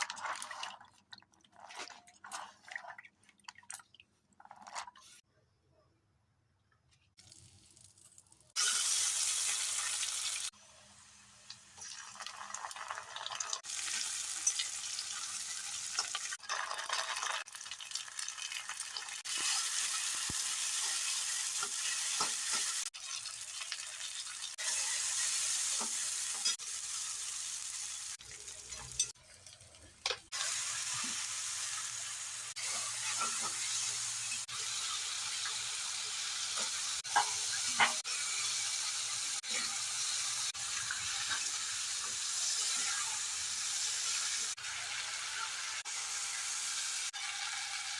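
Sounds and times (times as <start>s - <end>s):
food sizzling in hot oil: 7.2s - 47.9s.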